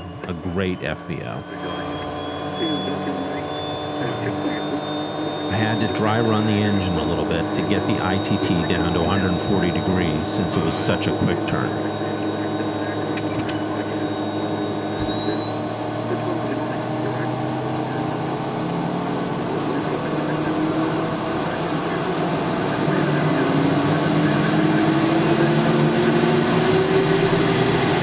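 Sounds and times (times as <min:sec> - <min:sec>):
turboprop engine whine: 0:00.0 - 0:28.0.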